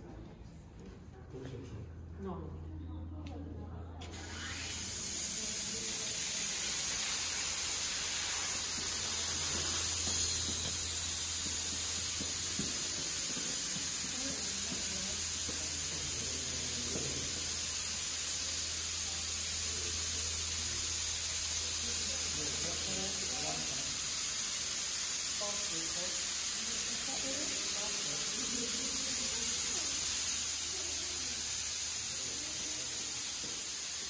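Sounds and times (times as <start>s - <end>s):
high-pitched hiss: 4.0s - 34.0s.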